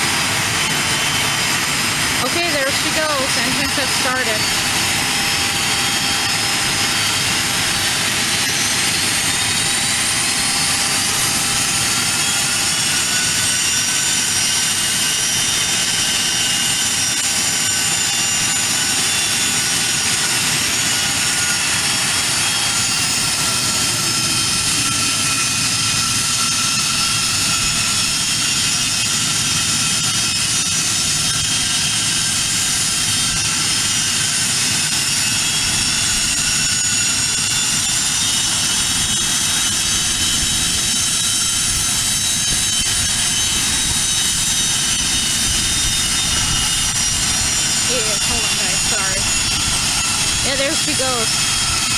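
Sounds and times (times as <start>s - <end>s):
aircraft turbine engines idling: 0.0s - 51.9s.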